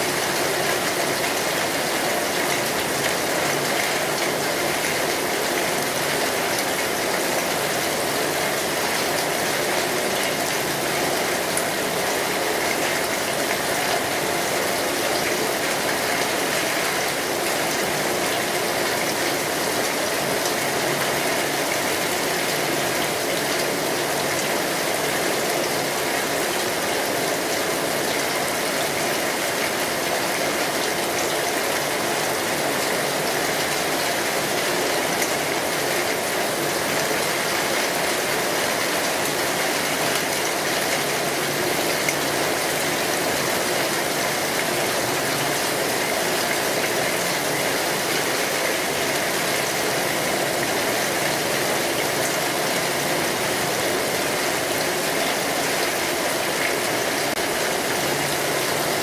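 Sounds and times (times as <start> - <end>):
steady rain on a street: 0.0 - 59.0.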